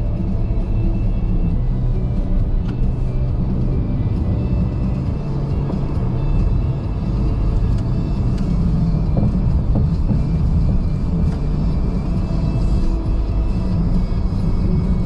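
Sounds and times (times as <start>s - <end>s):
car engine: 0.0s - 15.0s
tyre and road noise: 0.0s - 15.0s.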